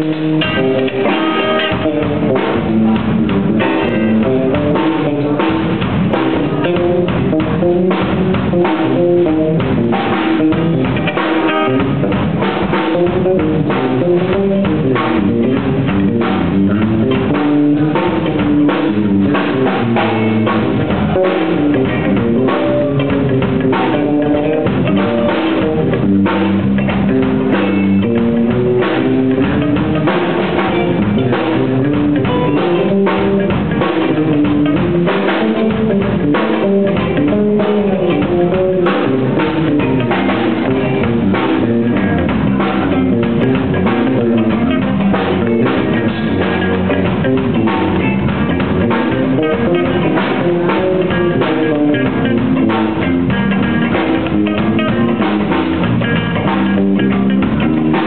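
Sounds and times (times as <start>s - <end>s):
drum kit beat with rimshots: 0.0s - 58.0s
guitar line: 0.0s - 58.0s
live funk band playing: 0.0s - 58.0s.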